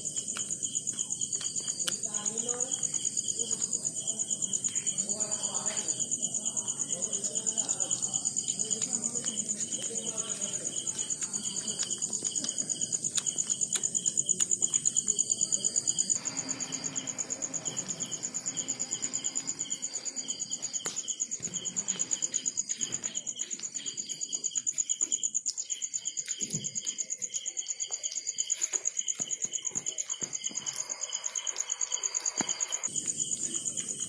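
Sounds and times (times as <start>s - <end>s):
higher insect trill: 0.0s - 34.0s
night insects trilling: 0.0s - 34.0s.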